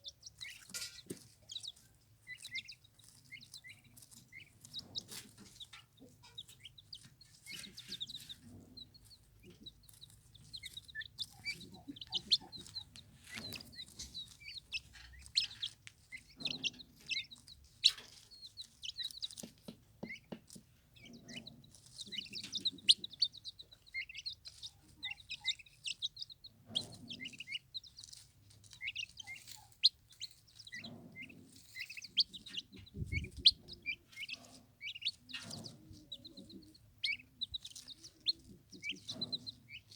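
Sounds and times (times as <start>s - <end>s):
turkey poults peeping: 0.0s - 39.9s.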